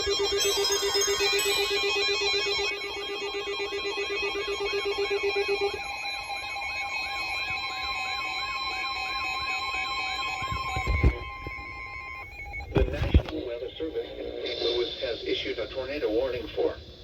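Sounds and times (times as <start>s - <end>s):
pulsing low ring: 0.0s - 14.1s
sweeping siren tone: 0.0s - 14.1s
high steady beeping tones: 0.0s - 15.4s.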